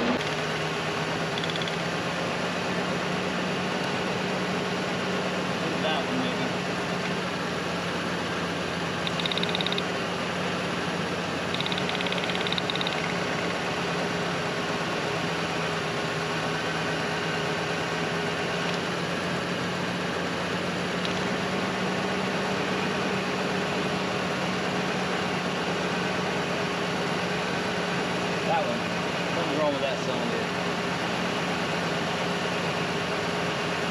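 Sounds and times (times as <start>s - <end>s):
engine idling with misfire: 0.0s - 33.9s.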